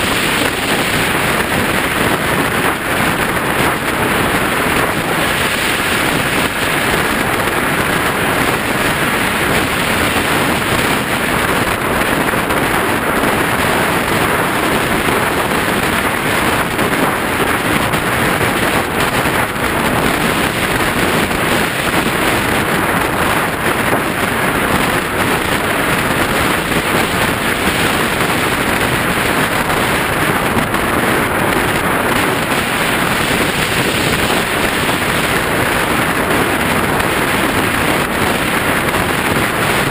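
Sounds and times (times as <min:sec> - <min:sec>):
plane propeller running: 0:00.0 - 0:39.9
wind rushing on microphone: 0:00.0 - 0:39.9.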